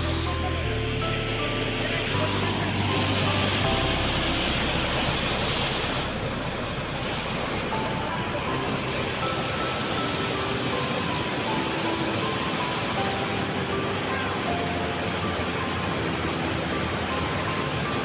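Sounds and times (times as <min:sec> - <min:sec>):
roar of churning water: 0:01.0 - 0:18.0.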